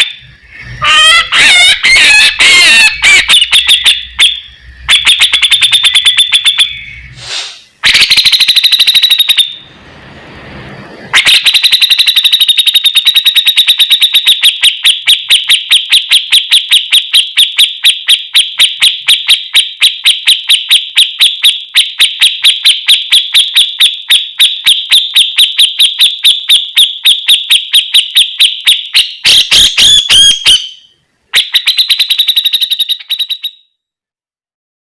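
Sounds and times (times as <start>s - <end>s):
bird trilling high chirps: 0.0s - 9.7s, 11.0s - 33.7s.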